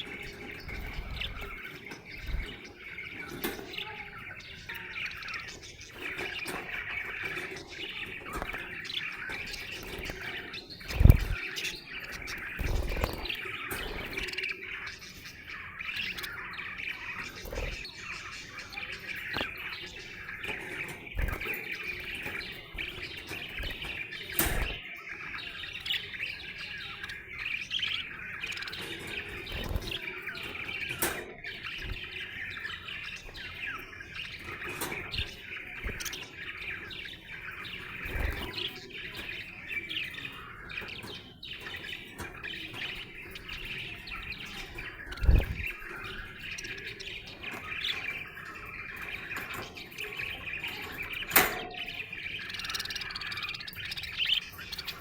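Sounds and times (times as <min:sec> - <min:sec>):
budgerigar chattering: 0:00.0 - 0:55.0.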